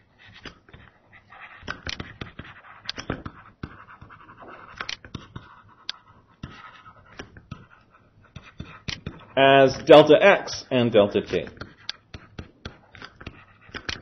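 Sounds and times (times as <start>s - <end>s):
stylus tapping and scratching on screen: 0.0s - 14.0s.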